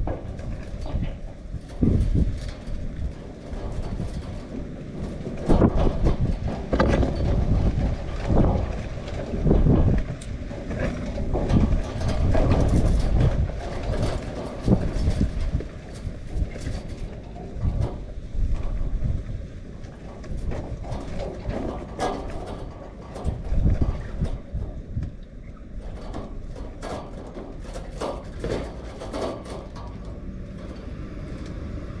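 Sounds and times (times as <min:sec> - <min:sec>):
knocks and rattles: 0:00.0 - 0:31.4
strong wind gusting: 0:00.0 - 0:32.0.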